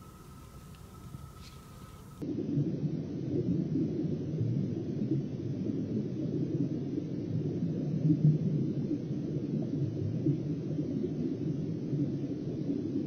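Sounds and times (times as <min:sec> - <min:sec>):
underwater low rumbling: 0:00.0 - 0:13.0.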